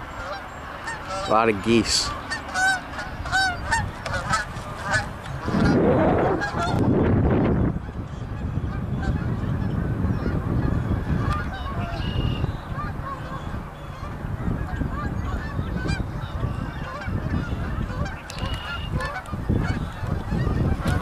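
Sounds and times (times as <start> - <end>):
geese honking: 0.0 - 7.0, 7.7 - 21.0.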